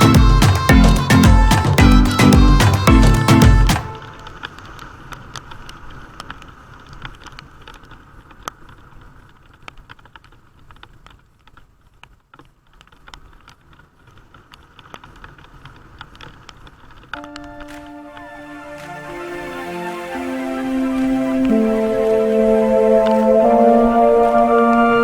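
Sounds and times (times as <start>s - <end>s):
rain pattering: 0.0s - 24.9s.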